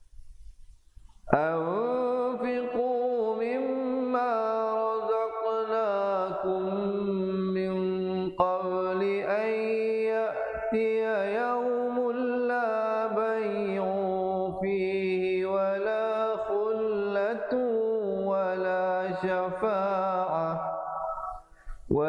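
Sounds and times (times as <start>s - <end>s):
man chanting recitation: 1.3s - 22.0s.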